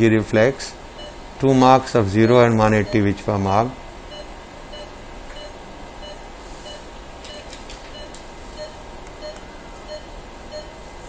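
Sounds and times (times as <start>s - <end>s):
low background hum: 0.0s - 11.0s
patient monitor beeps: 1.0s - 3.4s, 4.1s - 10.8s.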